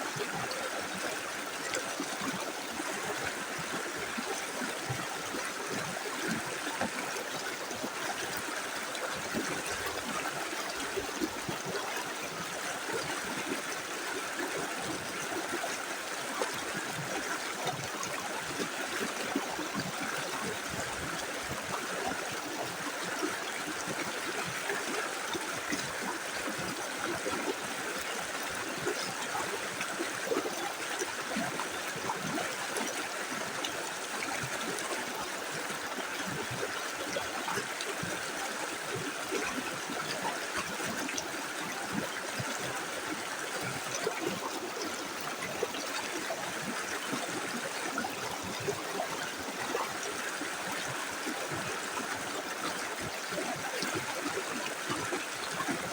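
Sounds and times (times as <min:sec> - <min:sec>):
river flowing over stones: 0:00.0 - 0:55.9.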